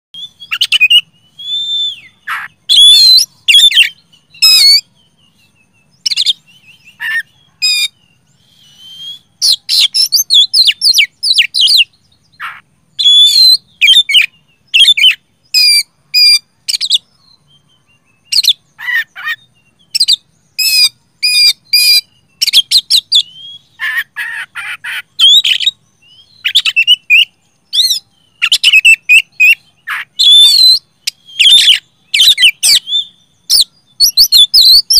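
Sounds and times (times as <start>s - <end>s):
bird singing loudly: 0.2s - 34.9s.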